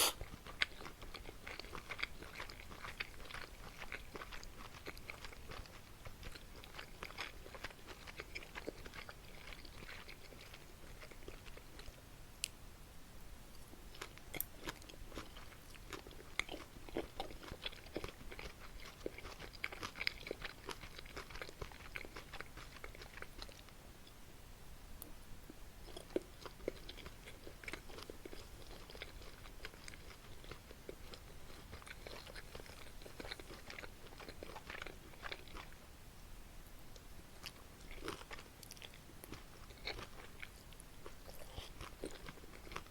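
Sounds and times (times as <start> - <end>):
chewing and biting noodles: 0.0 - 12.0, 13.9 - 23.7, 25.5 - 35.8, 37.4 - 42.9.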